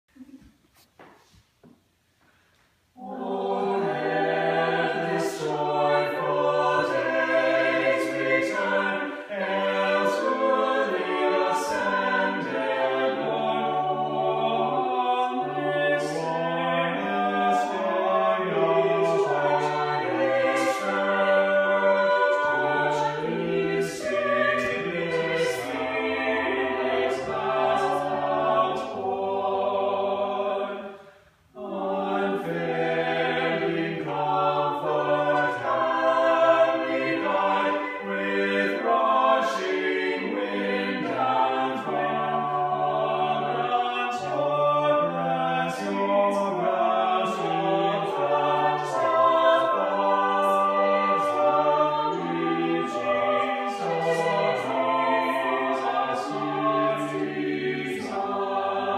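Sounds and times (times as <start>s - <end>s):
choir singing in harmony: 3.0s - 58.9s.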